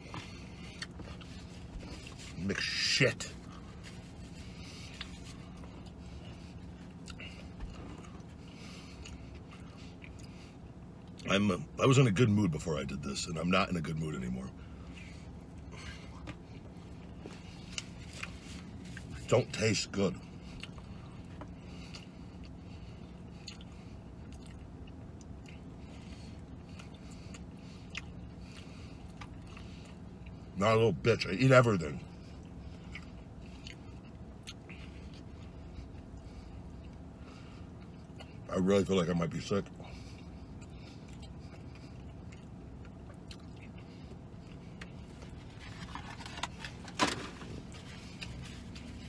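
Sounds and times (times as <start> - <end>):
man chewing: 0.0 - 11.3, 14.6 - 19.2, 20.3 - 30.5, 32.0 - 38.5, 39.6 - 49.0
steady low hum: 0.0 - 49.0.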